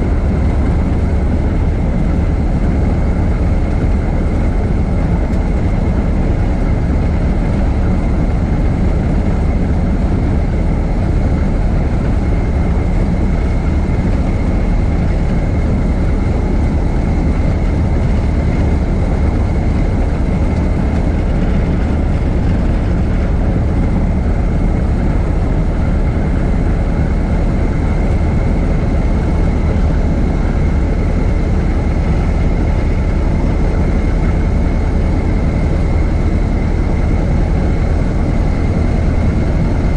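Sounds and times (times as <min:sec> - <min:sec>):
old car engine running: 0:00.0 - 0:39.9.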